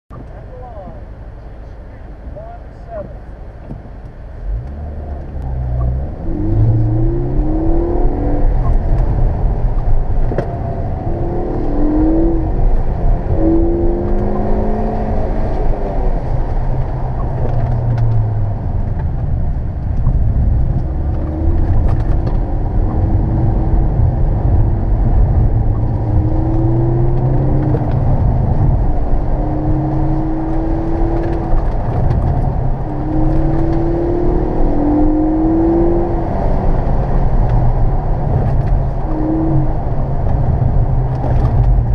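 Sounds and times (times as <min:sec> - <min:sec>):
car engine revving: 0:04.2 - 0:41.9.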